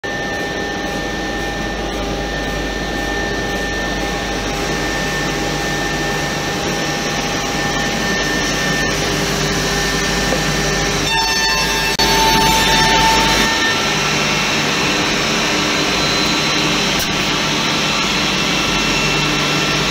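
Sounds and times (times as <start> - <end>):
high machine whine: 0.0 - 19.9
machine rushing noise: 3.3 - 19.9.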